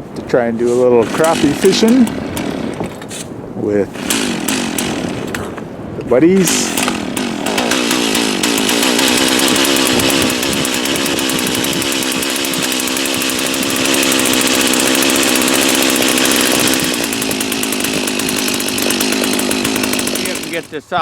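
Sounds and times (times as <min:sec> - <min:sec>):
ice auger engine running: 0:01.0 - 0:03.2, 0:03.9 - 0:05.6, 0:06.4 - 0:21.0.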